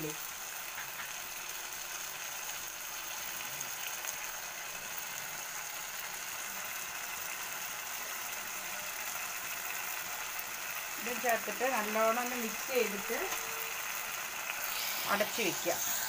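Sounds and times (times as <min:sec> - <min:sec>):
masala sizzling in a frying pan: 0:00.0 - 0:16.0.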